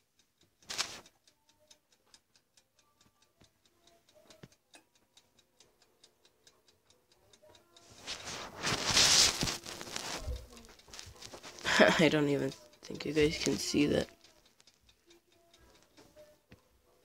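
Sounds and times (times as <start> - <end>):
mechanical timer ticking: 0.0 - 17.0.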